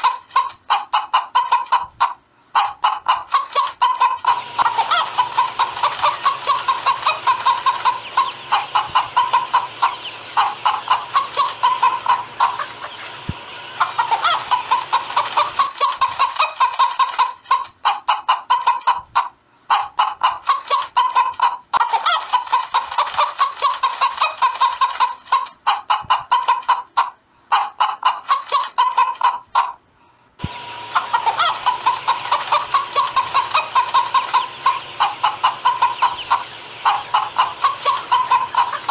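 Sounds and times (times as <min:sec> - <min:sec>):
hens clucking: 0:00.0 - 0:29.8, 0:30.4 - 0:38.9.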